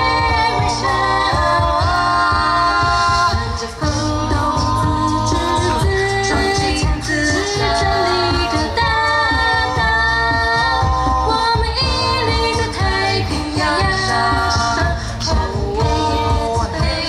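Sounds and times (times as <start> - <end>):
a cappella group singing in harmony: 0.0 - 17.0
low pulsing sung bass: 0.0 - 17.0.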